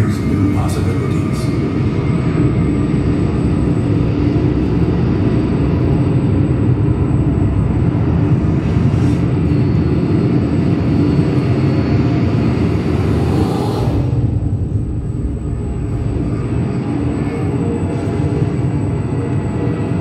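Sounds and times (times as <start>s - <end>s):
deep rumbling drone over loudspeakers: 0.0s - 20.0s.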